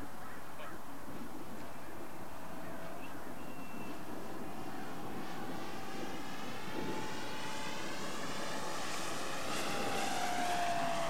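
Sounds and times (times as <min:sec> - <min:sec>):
rushing aircraft noise: 0:00.0 - 0:11.0.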